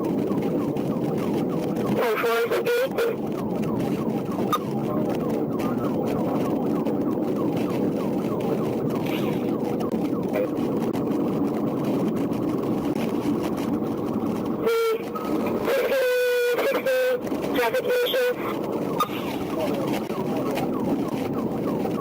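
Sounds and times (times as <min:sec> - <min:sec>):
police siren yelping: 0:00.0 - 0:22.0
road and engine noise: 0:00.0 - 0:22.0.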